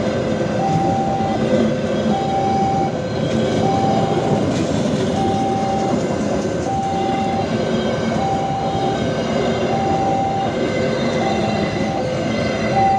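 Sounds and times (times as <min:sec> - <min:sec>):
passing train rumble: 0:00.0 - 0:12.9
level crossing alarm: 0:00.6 - 0:12.9.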